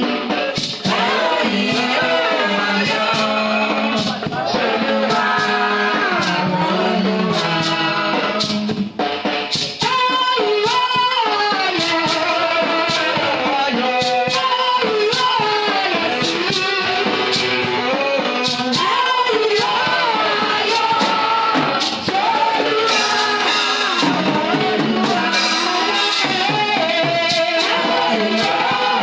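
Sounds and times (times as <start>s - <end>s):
band with steady drum beat: 0.0s - 29.0s
voices singing gospel music: 0.0s - 29.0s.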